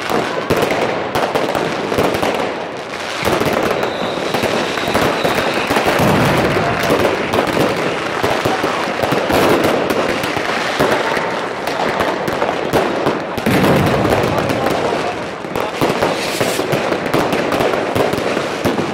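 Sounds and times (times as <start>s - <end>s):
fireworks crackling and banging: 0.0s - 18.9s.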